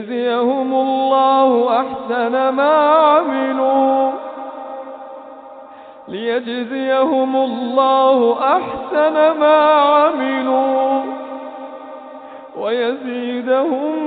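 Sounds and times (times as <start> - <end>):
man chanting melodically: 0.0 - 5.2, 6.1 - 14.0.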